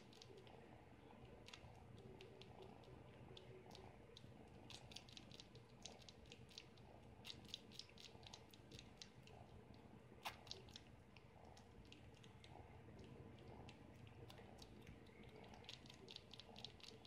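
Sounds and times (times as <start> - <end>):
kitten suckling wet clicks: 0.0 - 17.0.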